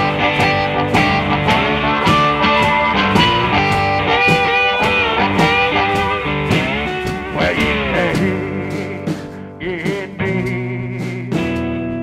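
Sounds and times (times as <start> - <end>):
drum beat: 0.0 - 11.9
bending electric guitar notes: 0.0 - 12.0.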